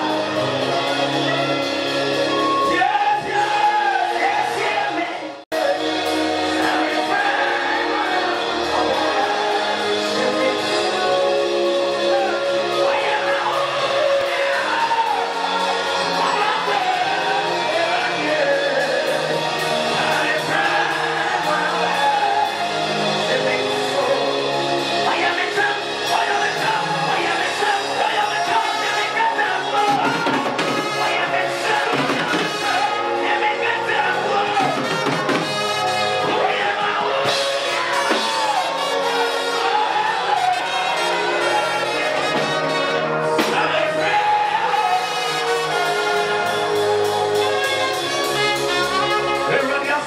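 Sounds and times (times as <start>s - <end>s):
church band playing: 0.0s - 50.0s
men singing into microphones: 0.0s - 50.0s.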